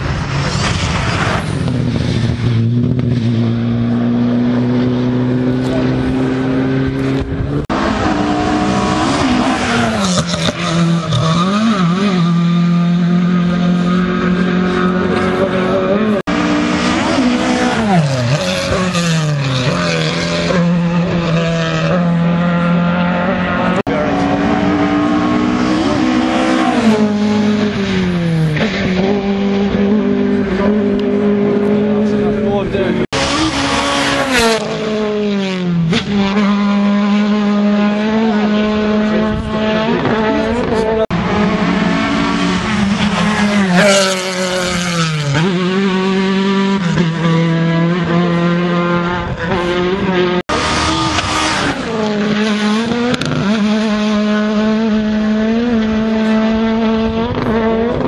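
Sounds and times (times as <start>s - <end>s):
rally car engine at full throttle: 0.0s - 58.0s.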